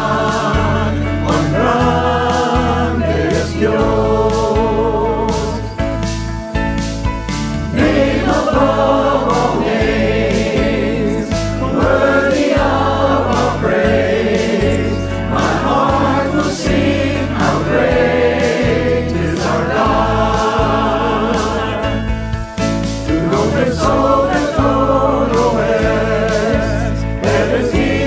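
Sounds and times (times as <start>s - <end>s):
choir singing: 0.0s - 5.8s, 7.6s - 28.0s
sustained instrumental backing: 0.0s - 28.0s.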